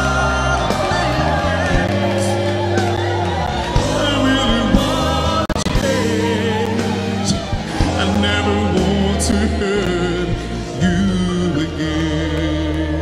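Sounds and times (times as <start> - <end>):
band accompaniment: 0.0 - 13.0
man singing gospel song: 0.0 - 13.0
men's choir singing: 0.0 - 13.0.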